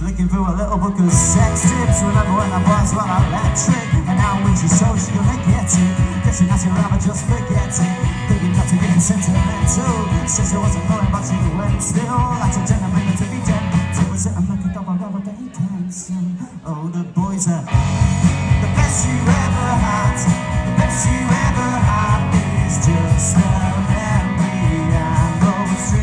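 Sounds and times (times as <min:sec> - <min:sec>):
live rock band: 0:00.0 - 0:26.0
drum kit beat: 0:01.1 - 0:14.3, 0:17.7 - 0:26.0.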